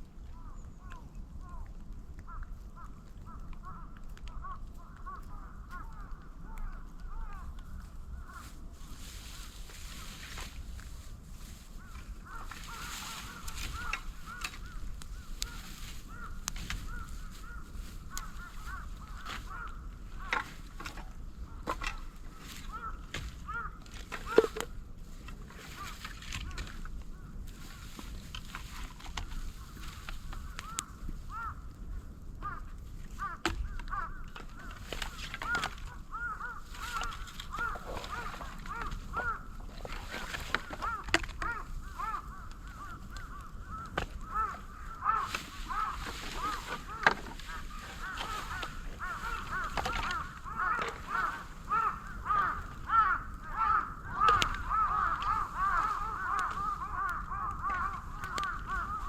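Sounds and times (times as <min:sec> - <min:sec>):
bamboo fire crackling: 0:00.0 - 0:59.0.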